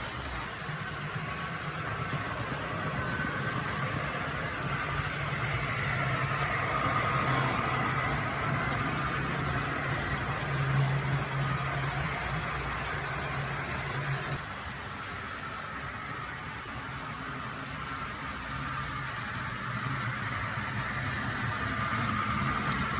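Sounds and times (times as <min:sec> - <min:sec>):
model train running on track: 0:00.0 - 0:22.9.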